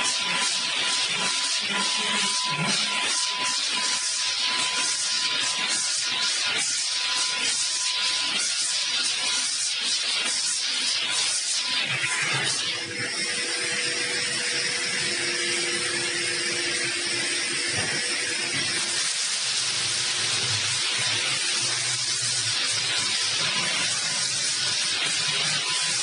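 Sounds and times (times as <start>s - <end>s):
machine hissing: 0.0s - 26.0s.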